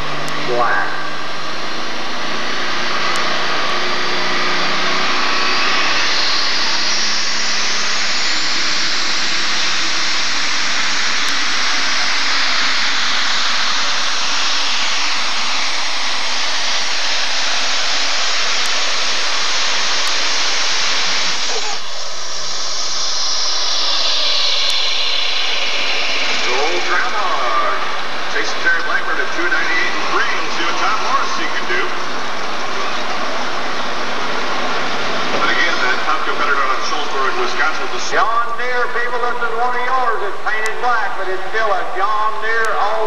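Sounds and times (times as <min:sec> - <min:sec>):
high turbo whine: 0:00.0 - 0:43.0.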